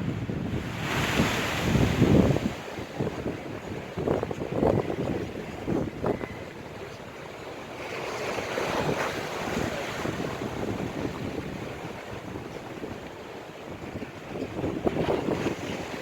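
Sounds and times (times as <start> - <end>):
storm waves breaking on shore: 0.0 - 16.0
wind buffeting microphone: 0.0 - 16.0.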